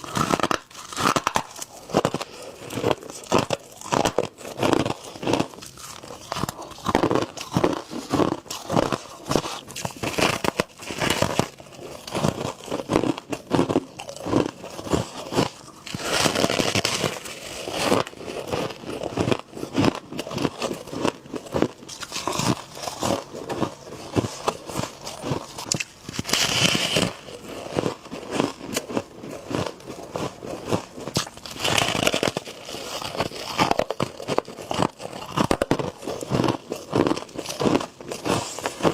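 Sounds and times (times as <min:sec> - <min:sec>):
person chewing crunchy frost: 0:00.0 - 0:38.9.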